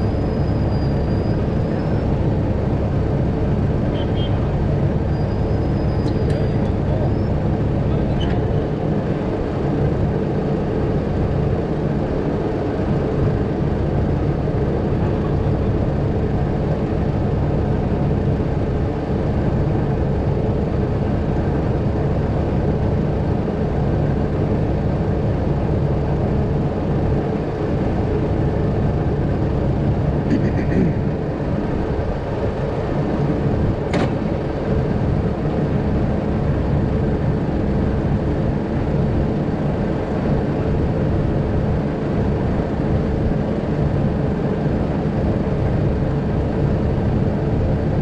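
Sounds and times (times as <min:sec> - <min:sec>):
diesel truck engine running: 0:00.0 - 0:48.0.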